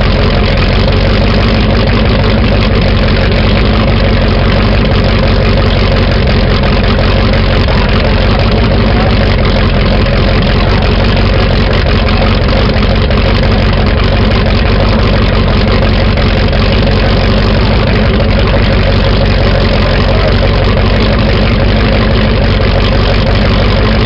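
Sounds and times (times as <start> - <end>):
boat engine running loud: 0.0 - 24.0
exhaust spraying water: 0.0 - 24.0.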